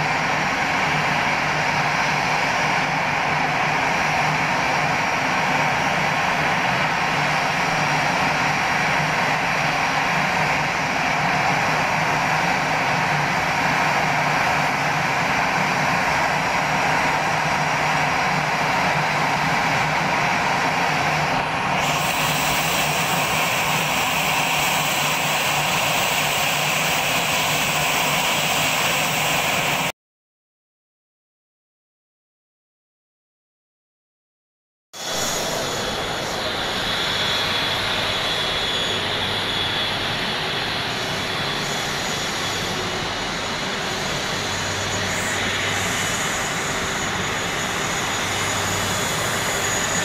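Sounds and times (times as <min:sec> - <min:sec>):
jet engines idling: 0:00.0 - 0:29.9, 0:35.0 - 0:50.0.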